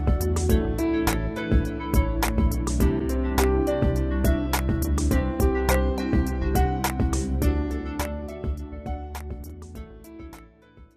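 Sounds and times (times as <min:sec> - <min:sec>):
guitar music over a beat: 0:00.0 - 0:10.9.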